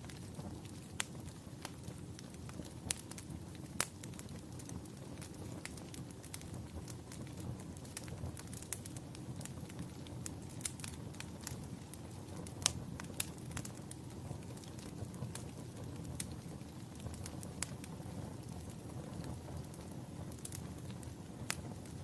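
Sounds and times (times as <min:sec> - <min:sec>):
fire low rumble: 0:00.0 - 0:22.0
fire popping and snapping: 0:00.0 - 0:22.0.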